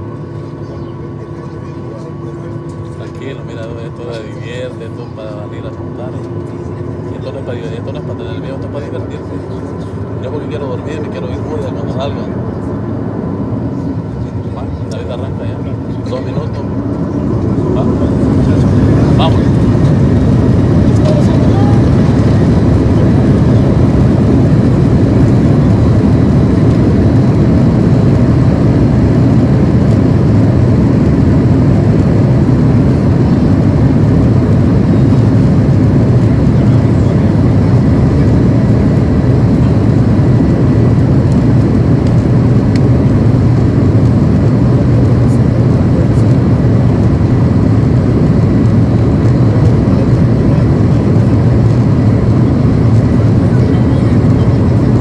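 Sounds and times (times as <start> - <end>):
jet engine rumble in cabin: 0.0 - 55.0.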